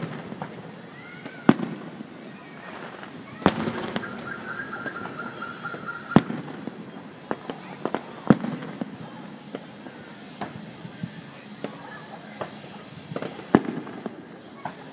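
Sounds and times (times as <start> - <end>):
firework booms: 0.0 - 14.9
firework pops and crackles: 0.0 - 14.9.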